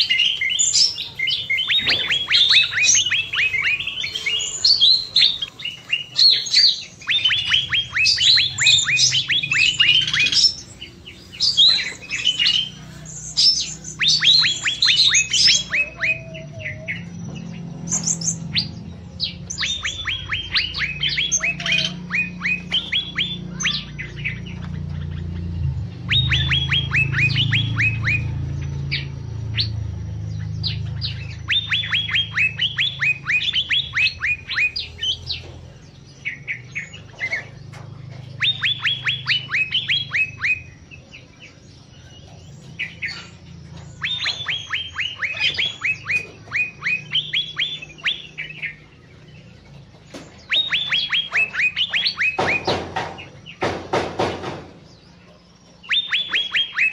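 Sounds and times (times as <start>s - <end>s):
songbirds chirping: 0.0s - 56.9s
steady low hum: 0.0s - 56.9s.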